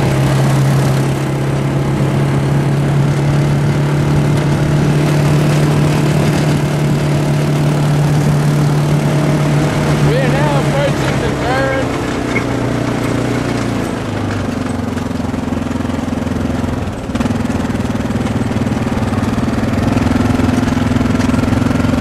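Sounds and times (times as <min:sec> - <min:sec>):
quad bike engine humming: 0:00.0 - 0:22.0.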